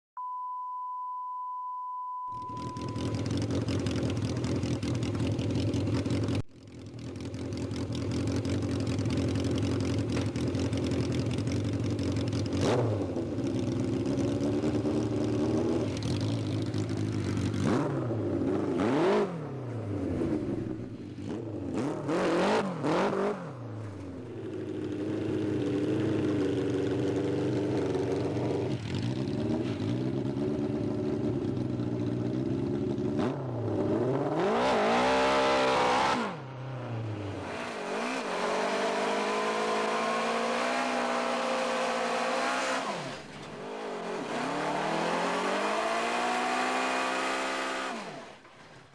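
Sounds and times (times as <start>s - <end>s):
motorcycle engine revving: 2.4s - 48.5s.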